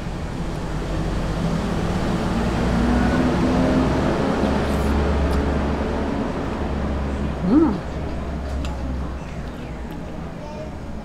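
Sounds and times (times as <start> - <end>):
vehicle engine rumbling: 0.0 - 10.9.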